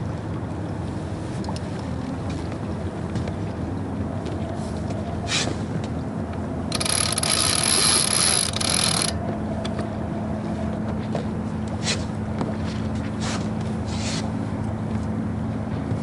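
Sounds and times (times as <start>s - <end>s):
low hum: 0.0s - 16.0s
rush of wind and water: 0.0s - 16.0s.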